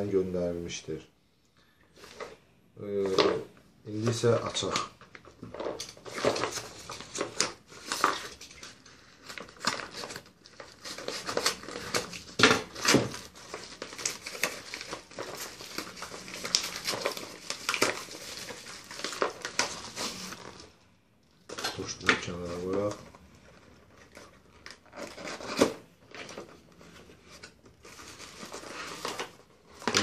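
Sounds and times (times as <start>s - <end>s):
plastic mailer crinkling: 2.2s - 20.8s, 21.4s - 30.0s.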